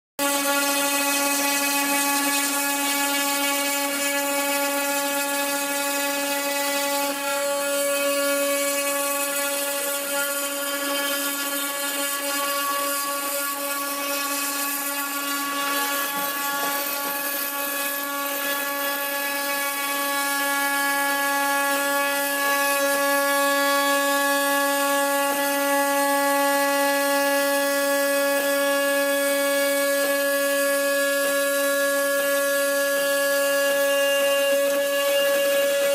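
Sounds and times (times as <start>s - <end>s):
cnc spindle high whine: 0.2s - 35.9s.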